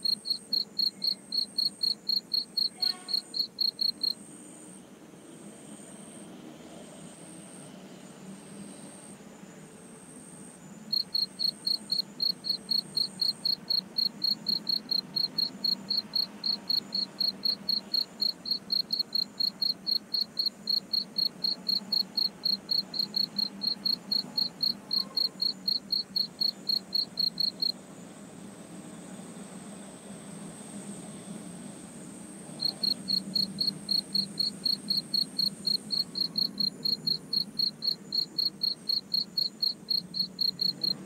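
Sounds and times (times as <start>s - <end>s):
cricket chirping: 0.0s - 9.2s, 9.9s - 29.8s, 30.6s - 41.0s
high insect call: 0.0s - 41.0s.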